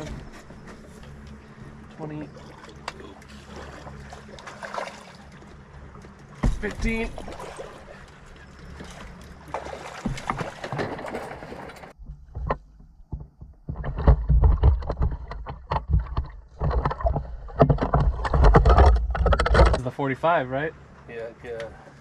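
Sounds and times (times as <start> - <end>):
water sloshing and splashing: 0.0 - 19.8.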